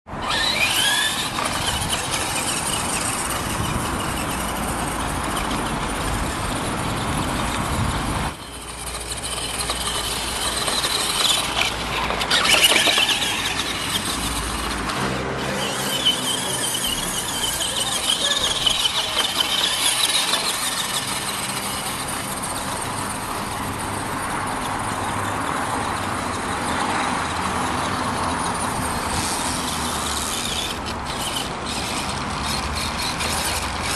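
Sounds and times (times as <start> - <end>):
toy truck electric motor whine: 0.1 - 33.9.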